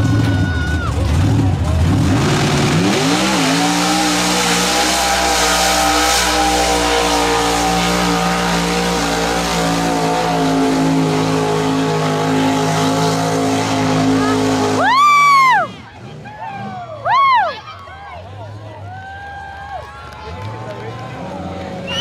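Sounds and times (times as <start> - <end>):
truck engine at full throttle: 0.0 - 22.0.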